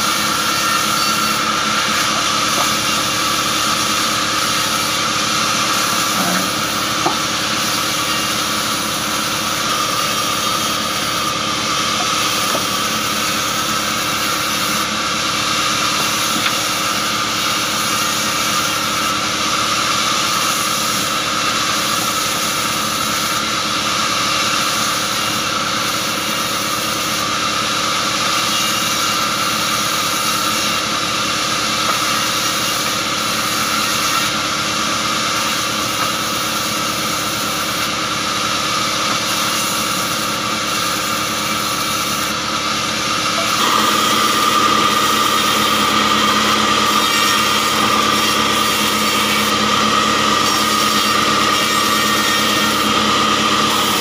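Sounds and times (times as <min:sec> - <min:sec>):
band saw whining: 0:00.0 - 0:54.0
sawmill machine drone: 0:00.0 - 0:54.0.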